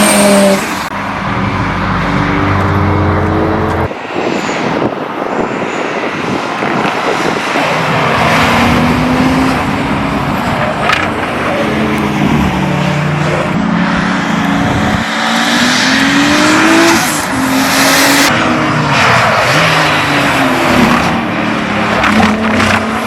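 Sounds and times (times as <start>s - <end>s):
car engines running: 0.0s - 23.0s.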